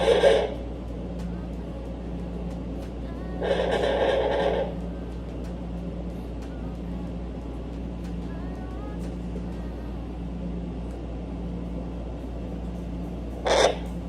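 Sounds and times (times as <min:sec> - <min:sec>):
doppler speaker static hiss: 0:00.0 - 0:14.0.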